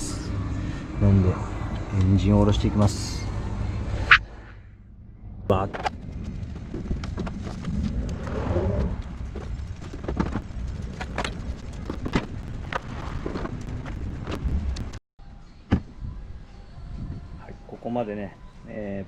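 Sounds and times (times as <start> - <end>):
steady low rumble: 0.0 - 17.7.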